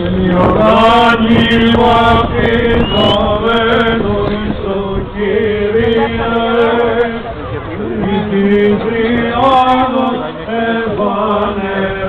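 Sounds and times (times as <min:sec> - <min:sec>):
men chanting: 0:00.1 - 0:12.0.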